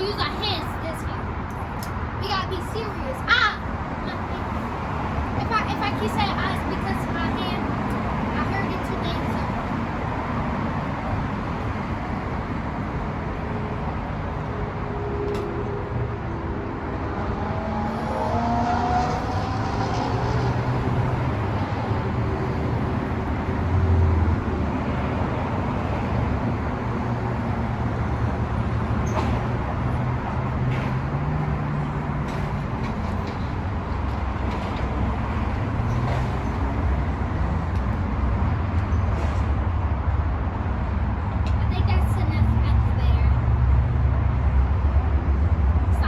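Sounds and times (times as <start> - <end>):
road traffic: 0.0 - 46.0.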